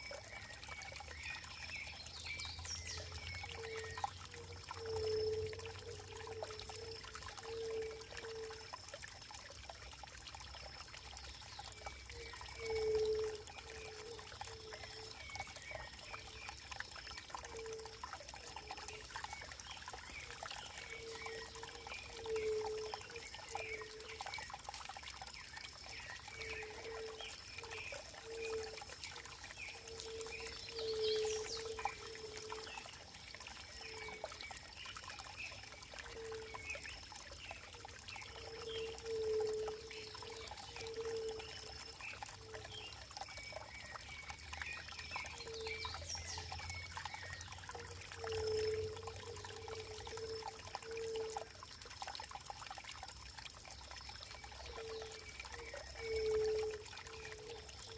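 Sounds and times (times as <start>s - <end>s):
water pouring and trickling: 0.0s - 57.9s.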